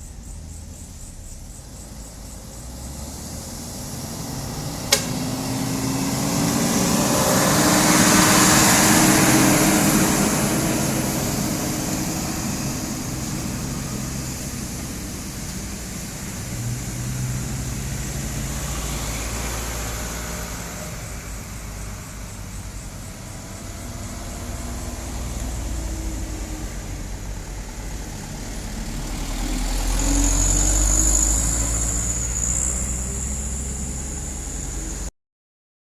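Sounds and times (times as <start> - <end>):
high engine whine: 0.0 - 35.1
truck engine rumbling: 0.0 - 35.1.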